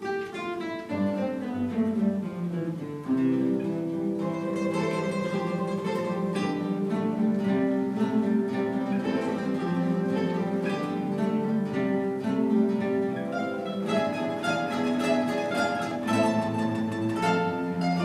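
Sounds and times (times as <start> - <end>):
guitar ensemble playing: 0.0 - 18.0.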